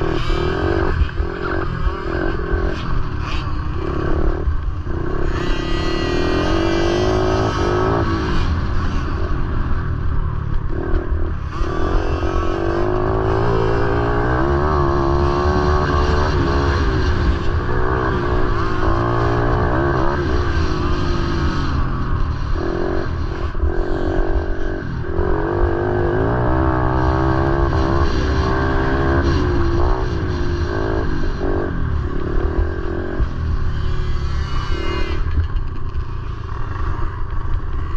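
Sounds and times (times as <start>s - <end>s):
continuous low rumble: 0.0s - 37.9s
motorcycle engines revving: 0.0s - 37.9s.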